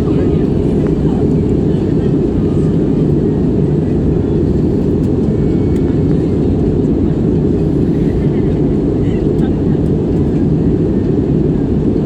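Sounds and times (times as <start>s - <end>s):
jet airliner roar: 0.0s - 12.0s.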